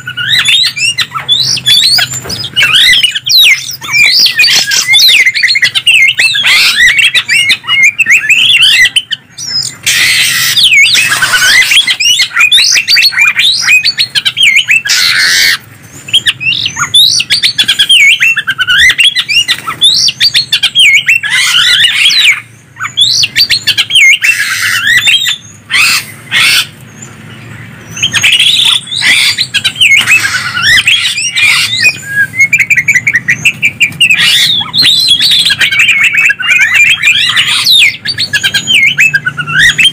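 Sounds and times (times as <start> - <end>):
birds whistling and chattering: 0.0 - 39.9.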